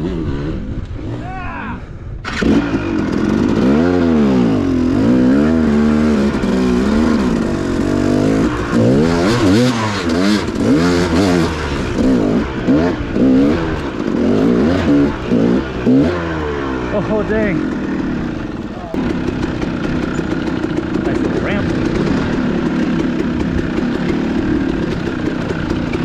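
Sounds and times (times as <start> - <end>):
dirt bike engine revving: 0.0 - 1.4, 2.2 - 26.0.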